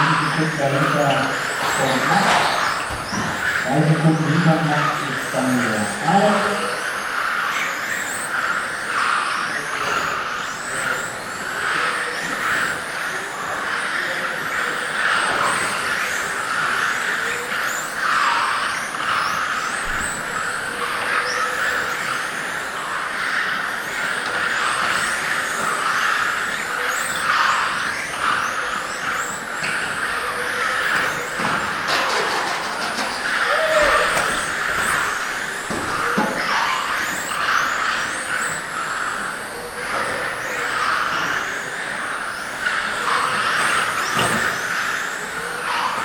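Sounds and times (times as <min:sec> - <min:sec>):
rc car motor whines: 0:00.0 - 0:46.0.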